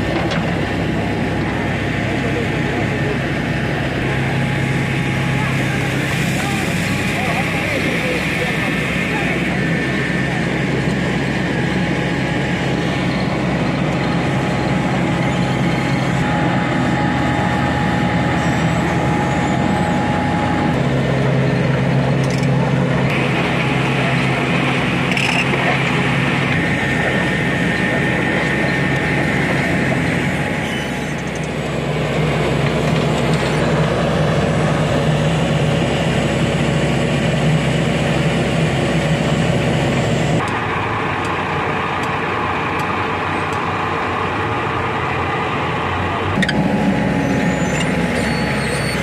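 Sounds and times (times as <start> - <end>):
heavy diesel engines running: 0.0 - 49.0.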